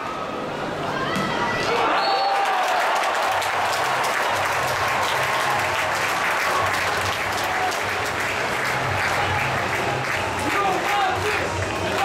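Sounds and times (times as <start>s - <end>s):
arena crowd applauding: 1.7s - 12.0s.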